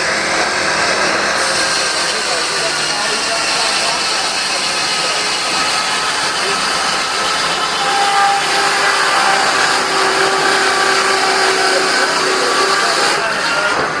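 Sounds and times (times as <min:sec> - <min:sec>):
steam-powered sawmill running: 0:00.0 - 0:14.0.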